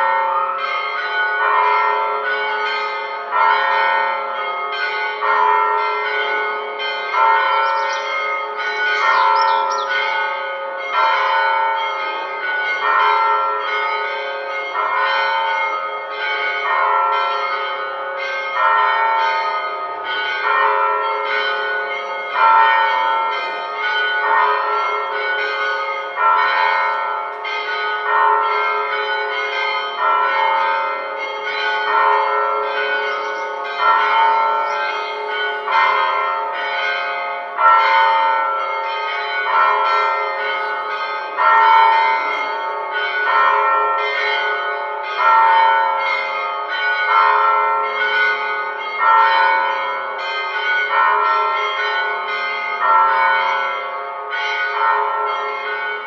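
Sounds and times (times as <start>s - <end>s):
church bells chiming: 0.0s - 56.0s.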